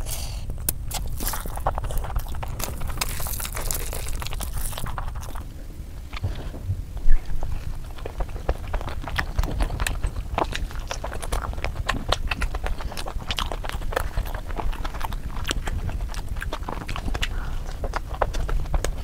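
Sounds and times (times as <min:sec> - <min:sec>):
chewing and lip smacking: 0:00.0 - 0:19.0.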